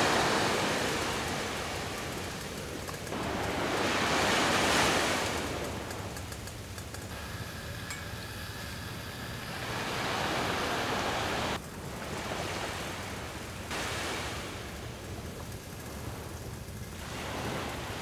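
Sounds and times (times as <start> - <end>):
surf rushing: 0.0 - 15.0
wind: 0.0 - 18.0.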